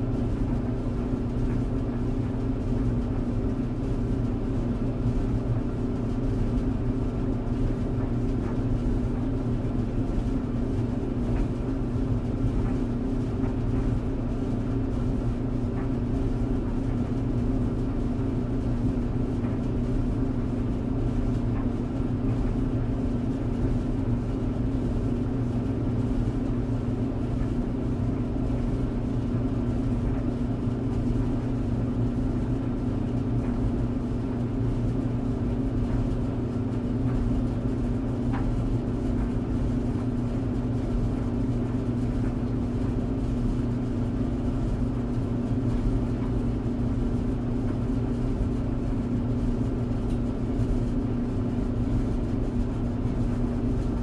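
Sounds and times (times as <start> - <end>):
tumble dryer humming: 0.0 - 54.0.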